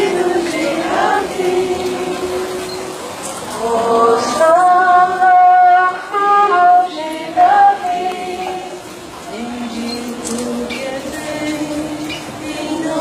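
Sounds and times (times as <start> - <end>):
woman singing a hymn: 0.0 - 2.7, 3.6 - 13.0.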